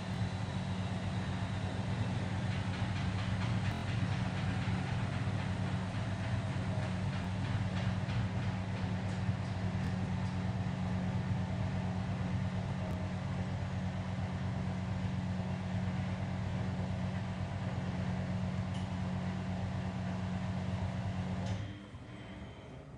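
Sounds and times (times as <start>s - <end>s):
washing machine spinning: 0.0s - 22.9s.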